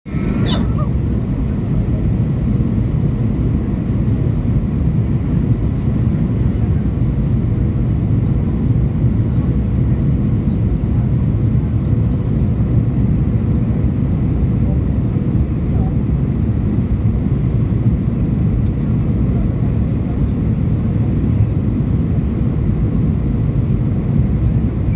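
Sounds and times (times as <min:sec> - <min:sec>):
airplane cabin engine drone: 0:00.1 - 0:24.9.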